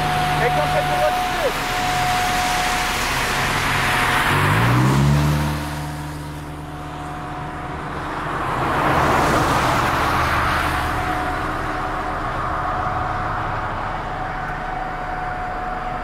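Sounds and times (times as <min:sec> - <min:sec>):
vehicle engine speeding up: 0:00.0 - 0:14.1
passing car tyre noise: 0:00.0 - 0:16.0.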